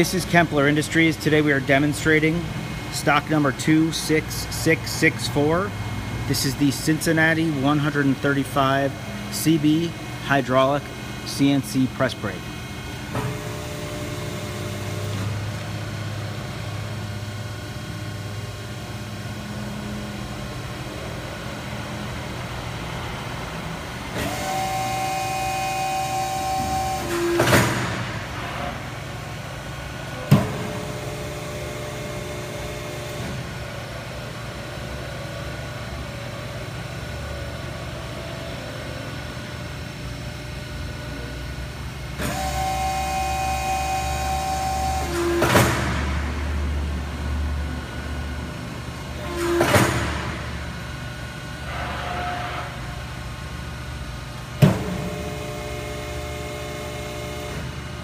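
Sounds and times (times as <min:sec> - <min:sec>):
hydraulic press hum and whine: 0:00.0 - 0:58.0.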